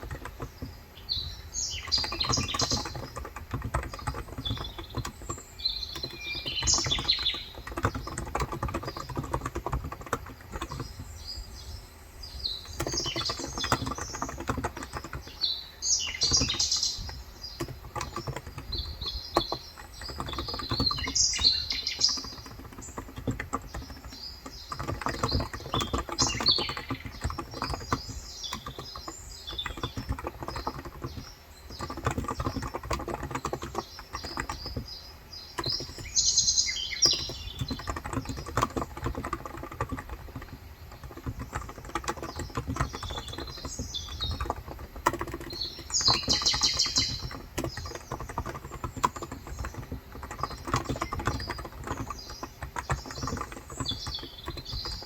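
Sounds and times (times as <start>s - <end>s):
birds chirping: 0.0s - 55.0s
fast keyboard typing: 0.0s - 55.0s.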